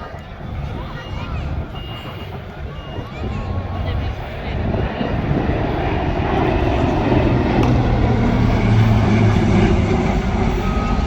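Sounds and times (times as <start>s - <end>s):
aircraft engine drone: 0.0s - 11.0s.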